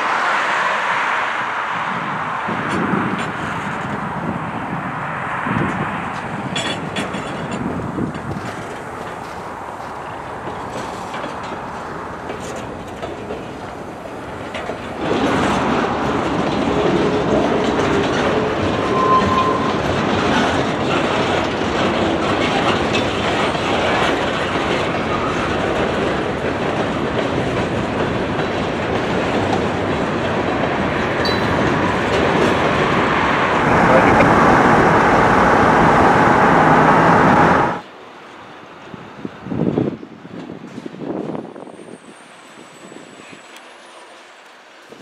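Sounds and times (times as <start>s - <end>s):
freight train rolling on rails: 0.0s - 45.0s.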